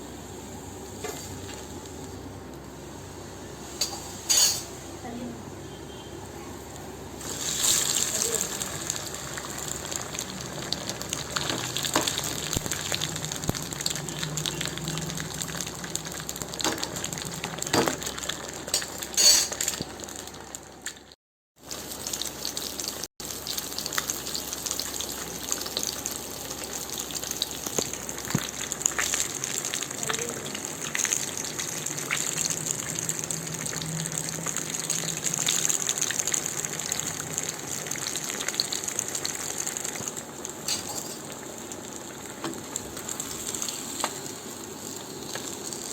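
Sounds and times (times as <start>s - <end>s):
fish sizzling in hot oil: 7.2s - 45.9s
oil crackling and popping: 7.2s - 45.9s.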